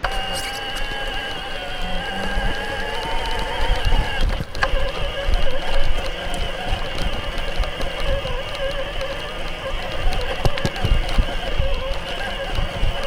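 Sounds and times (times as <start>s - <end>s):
bike tyres rumbling: 0.0s - 13.0s
wavering whine: 0.0s - 13.0s
wind on microphone: 0.0s - 13.0s.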